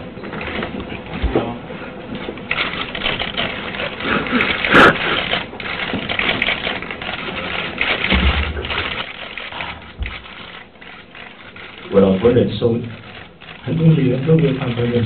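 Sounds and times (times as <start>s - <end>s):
camera shutters clicking: 2.3s - 15.0s.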